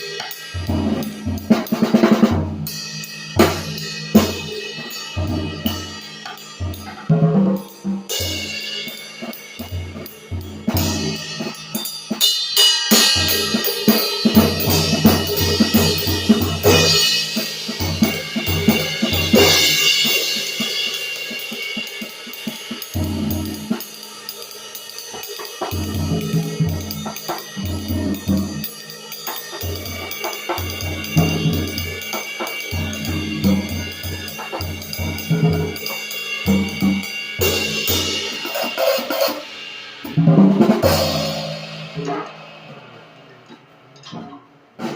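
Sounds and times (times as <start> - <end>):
ride cymbals ringing: 2.7 - 39.8.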